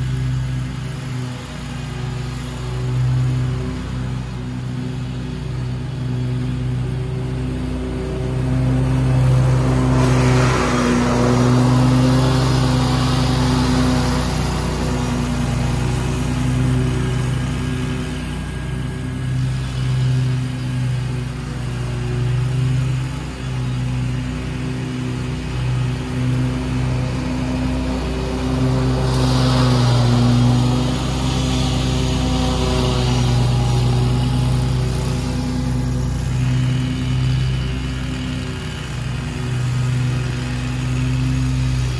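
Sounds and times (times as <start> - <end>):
blades cutting grass: 0.0 - 41.9
mower engine running: 0.0 - 41.9.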